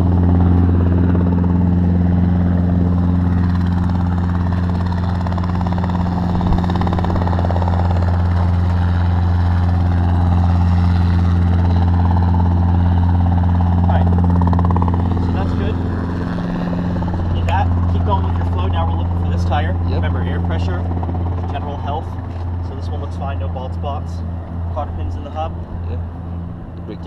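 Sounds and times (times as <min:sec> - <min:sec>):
engine idling drone: 0:00.0 - 0:27.0.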